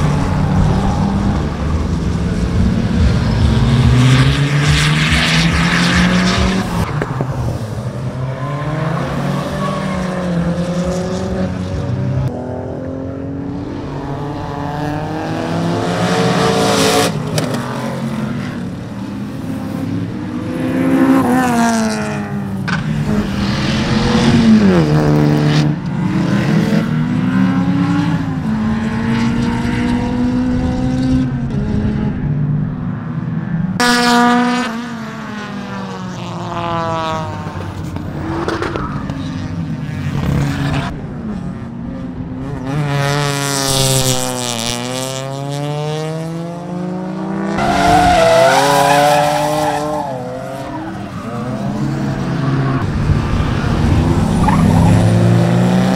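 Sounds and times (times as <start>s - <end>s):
race car engines revving: 0.0s - 55.9s.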